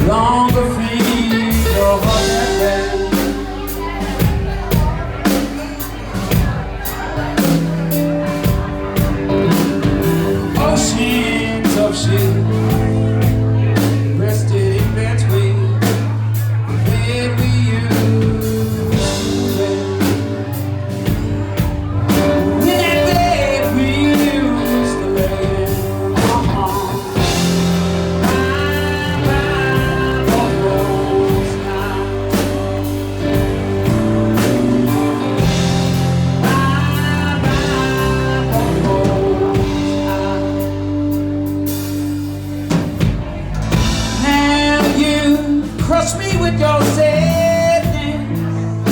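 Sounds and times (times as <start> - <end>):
person singing: 0.0 - 48.9
rock band playing: 0.0 - 48.9.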